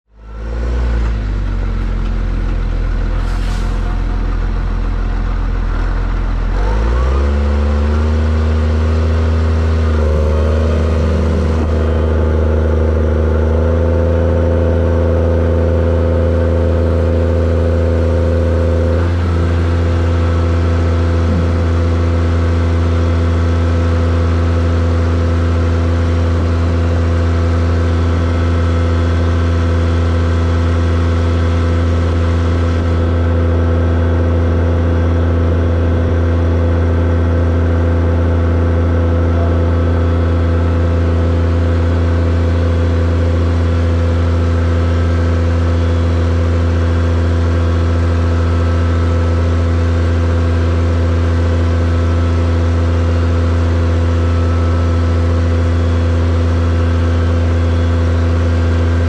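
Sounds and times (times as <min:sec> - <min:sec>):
tractor diesel engine running: 0:00.1 - 0:59.0.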